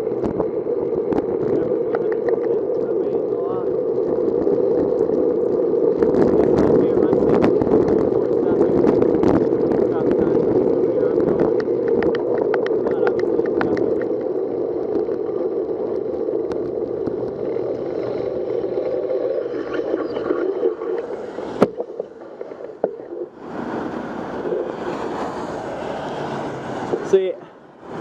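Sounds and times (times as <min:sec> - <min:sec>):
bicycle tyres on wet road: 0:00.0 - 0:28.0
wind rushing over microphone: 0:00.0 - 0:28.0.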